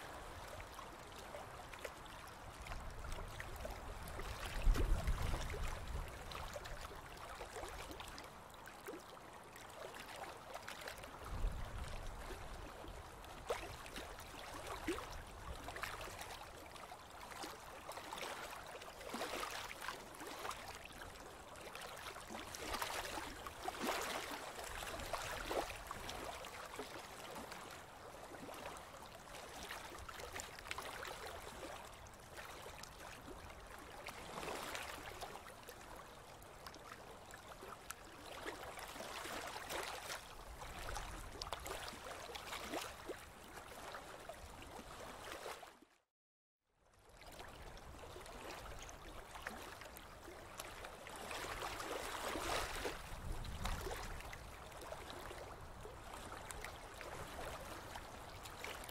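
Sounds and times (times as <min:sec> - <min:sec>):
river water lapping and splashing: 0:00.0 - 0:46.1, 0:46.8 - 0:58.9.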